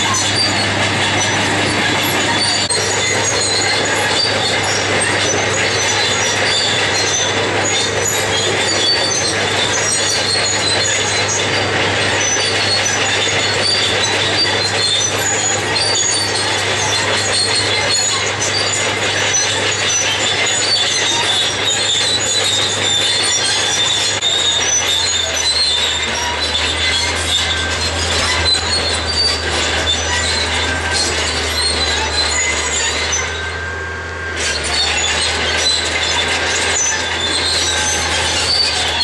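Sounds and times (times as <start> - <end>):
diesel engine under load: 0.0 - 39.0
steel tracks clanking and squealing: 0.0 - 39.0.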